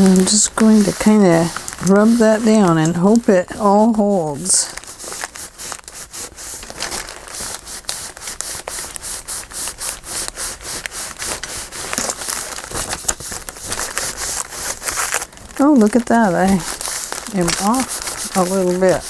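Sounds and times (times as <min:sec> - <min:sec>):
hand rubbing on paper: 0:00.0 - 0:19.0.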